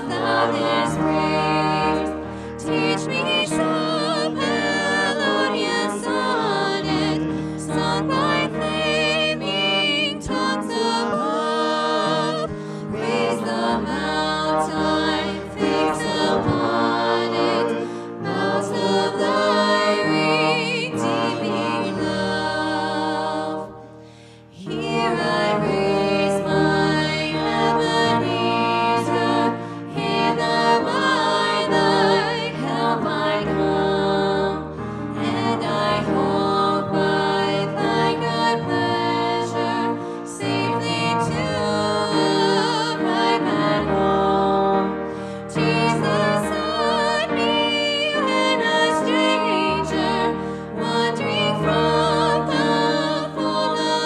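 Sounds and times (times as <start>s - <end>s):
electric keyboard accompaniment: 0.0s - 54.0s
women singing worship song: 0.0s - 54.0s.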